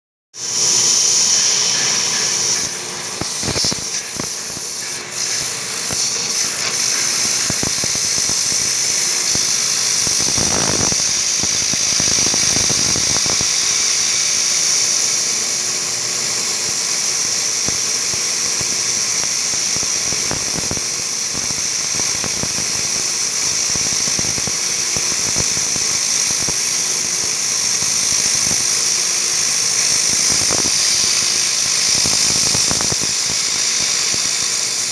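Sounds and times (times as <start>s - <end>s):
milling machine spindle whine: 0.4s - 34.9s
cutter ticking and crackling: 1.2s - 34.9s.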